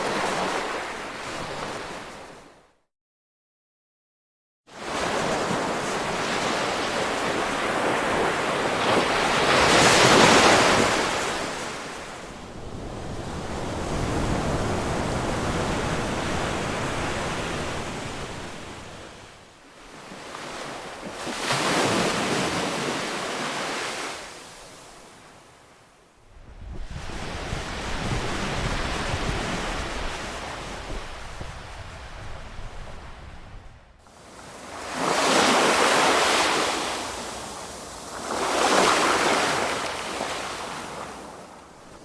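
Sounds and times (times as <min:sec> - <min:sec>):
ocean waves breaking: 0:00.0 - 0:02.5, 0:04.8 - 0:25.8, 0:26.8 - 0:42.0.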